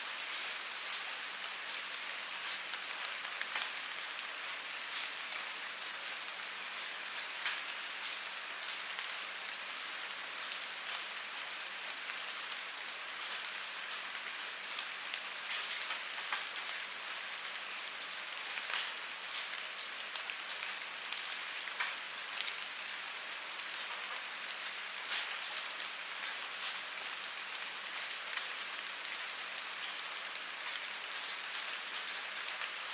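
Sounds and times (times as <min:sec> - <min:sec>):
steady rain hiss: 0:00.0 - 0:32.9
raindrops ticking close by: 0:00.1 - 0:32.9.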